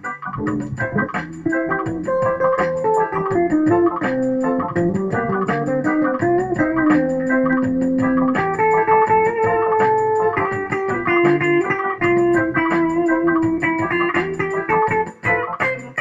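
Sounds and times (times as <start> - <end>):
backing track with steady beat: 0.0 - 16.0
electric guitar lead: 0.0 - 16.0.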